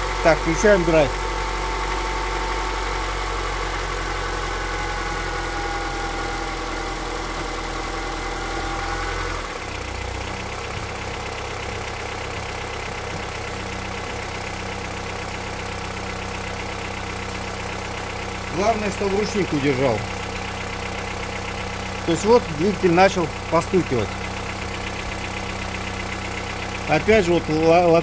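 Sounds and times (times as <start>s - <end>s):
car engine idling: 0.0s - 28.0s
light engine knocking: 1.1s - 28.0s.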